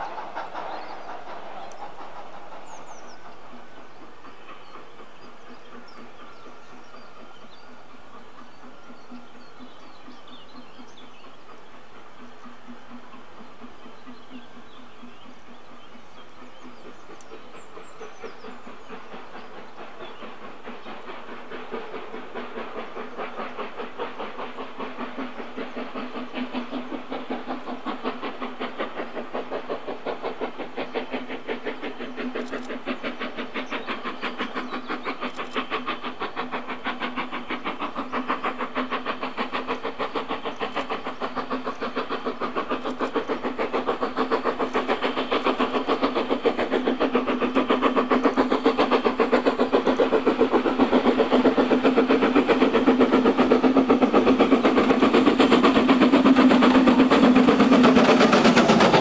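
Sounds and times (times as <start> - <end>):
steam locomotive exhaust beats: 0.0 - 59.0.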